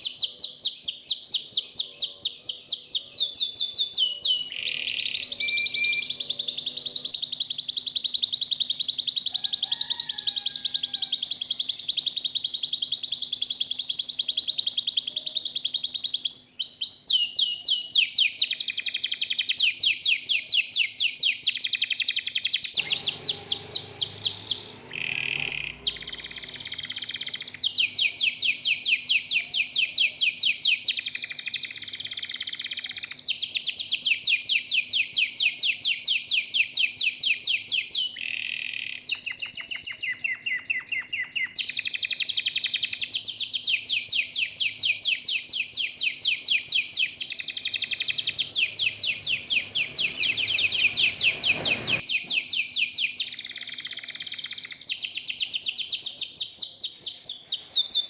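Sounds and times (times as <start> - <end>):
canaries singing trills: 0.0 - 58.0.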